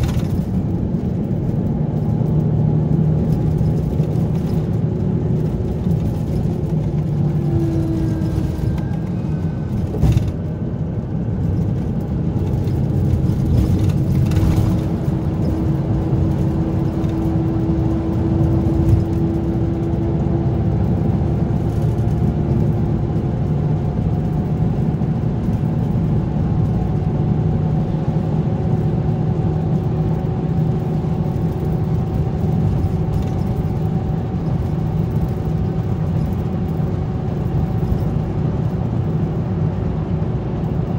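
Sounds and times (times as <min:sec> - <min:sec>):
bus engine rumbling: 0:00.0 - 0:40.9.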